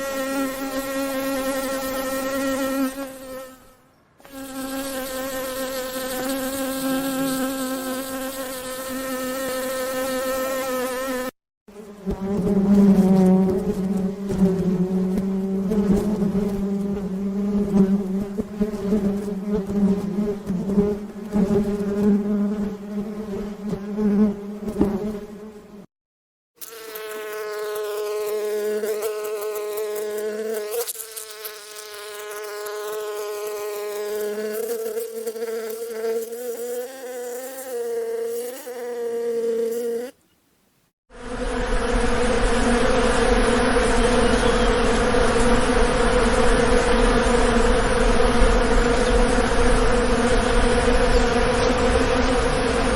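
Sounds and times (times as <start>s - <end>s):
bees buzzing in flight: 0.0s - 25.9s, 26.6s - 40.2s, 41.1s - 52.9s.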